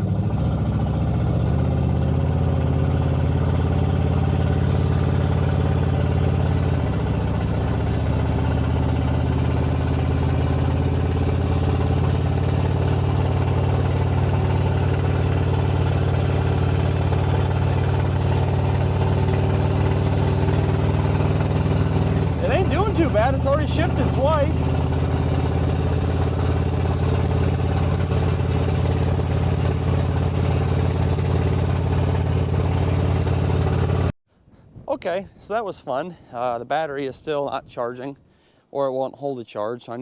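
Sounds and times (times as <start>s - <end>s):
car engine droning: 0.0s - 34.1s.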